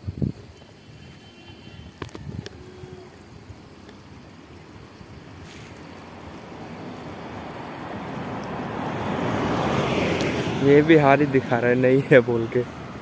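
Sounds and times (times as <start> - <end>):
road vehicle approaching: 1.5 - 13.0.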